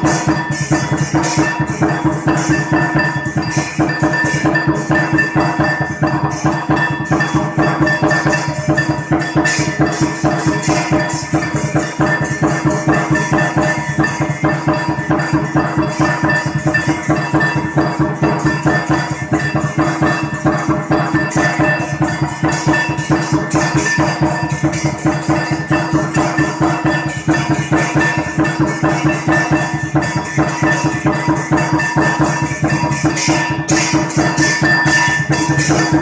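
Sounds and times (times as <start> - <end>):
music with fast percussive beat: 0.0 - 36.0.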